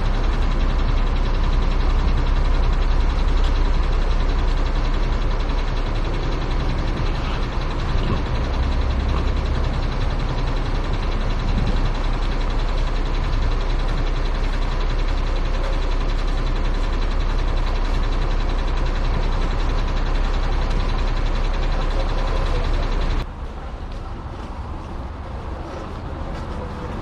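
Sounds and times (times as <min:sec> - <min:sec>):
heavy truck engine running: 0:00.0 - 0:27.0.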